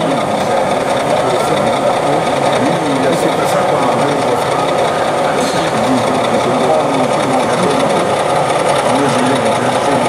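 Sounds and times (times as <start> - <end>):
model train motor whirring: 0.0 - 10.0
murmur of crowd: 0.0 - 10.0.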